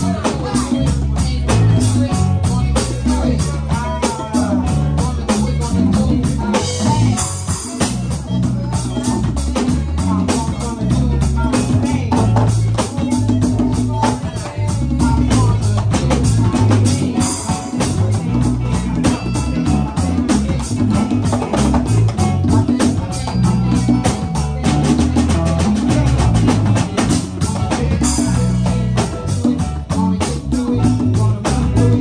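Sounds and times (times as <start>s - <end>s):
drum kit beat: 0.0s - 32.0s
electric guitar: 0.0s - 32.0s
low bass line: 0.0s - 32.0s.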